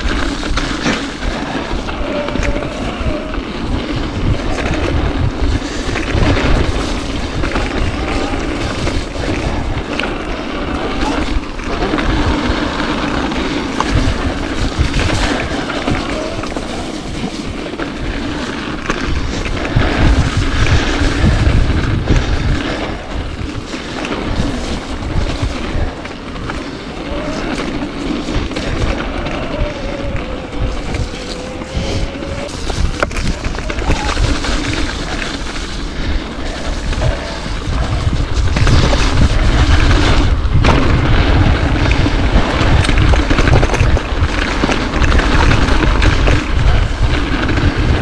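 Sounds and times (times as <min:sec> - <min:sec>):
bike clicks and knocks: 0:00.0 - 0:48.0
bike tyre noise on dirt: 0:00.0 - 0:48.0
wind buffeting microphone: 0:00.0 - 0:48.0.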